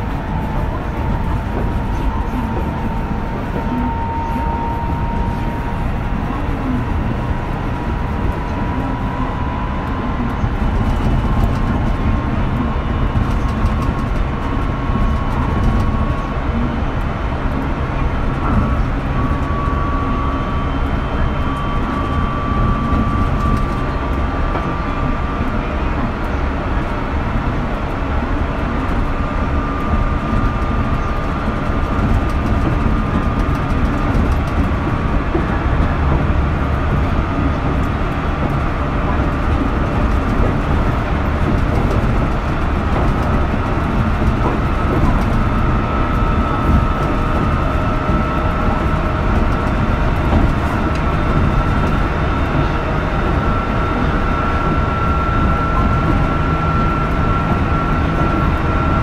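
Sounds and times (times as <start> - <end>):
train wheels rumbling: 0.0 - 59.0.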